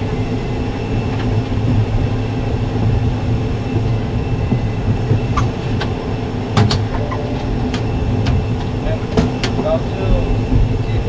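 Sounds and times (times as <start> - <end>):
cabin ventilation hum: 0.0 - 11.0.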